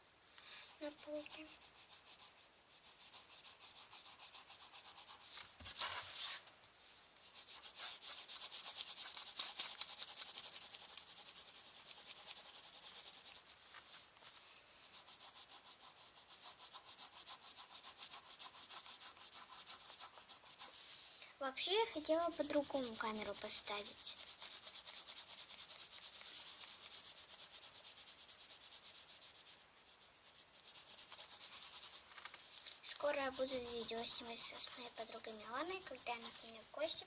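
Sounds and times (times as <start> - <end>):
colouring tool scribbling on paper: 0.7 - 5.5, 6.1 - 14.0, 14.9 - 21.1, 21.8 - 32.1, 32.7 - 37.0.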